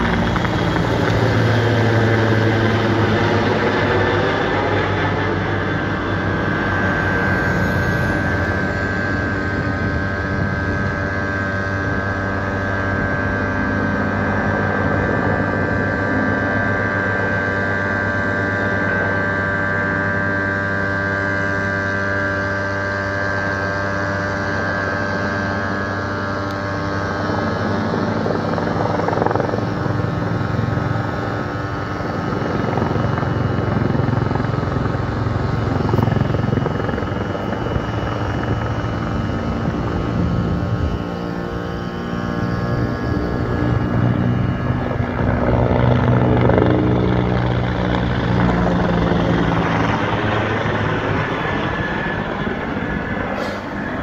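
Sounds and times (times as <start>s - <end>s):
helicopter rotor beat: 0.0s - 54.0s
helicopter whine: 0.0s - 54.0s.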